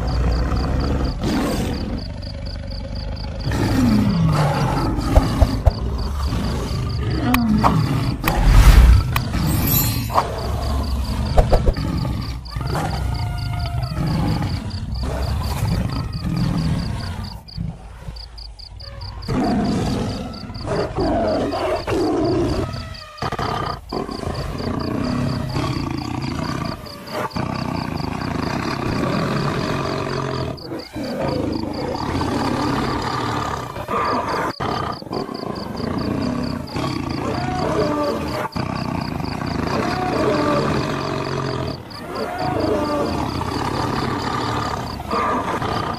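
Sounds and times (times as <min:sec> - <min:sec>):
animals roaring and growling: 0:00.0 - 0:45.9.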